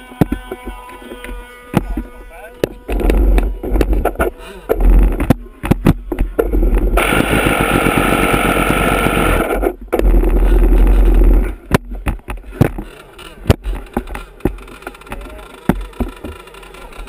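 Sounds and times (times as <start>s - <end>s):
electric starter whirring: 0.0s - 11.7s, 12.6s - 17.0s
knocks and handling thumps: 0.0s - 17.0s
model boat engine rumble: 0.0s - 17.0s.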